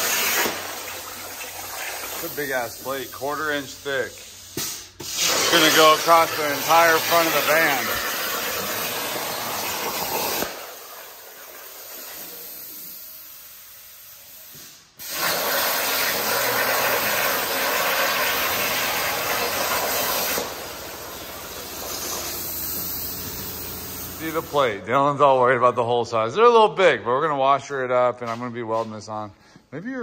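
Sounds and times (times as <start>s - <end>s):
plasma torch cutting steel hiss: 0.0s - 24.7s.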